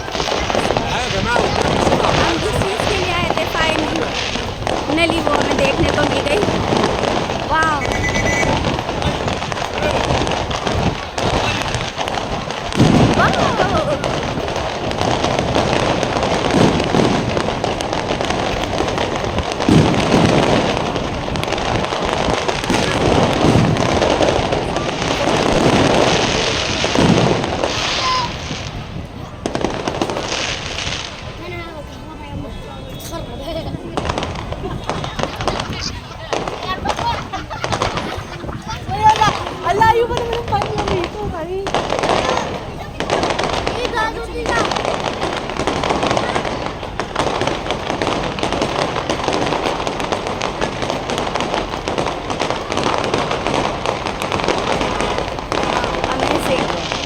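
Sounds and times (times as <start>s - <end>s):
fireworks booming bursts: 0.0s - 57.0s
fireworks sharp bangs: 0.0s - 57.0s.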